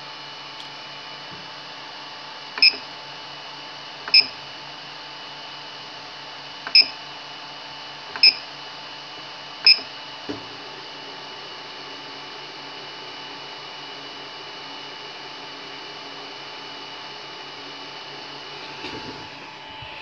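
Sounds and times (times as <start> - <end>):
cooling fans humming: 0.0 - 5.4, 6.6 - 20.0.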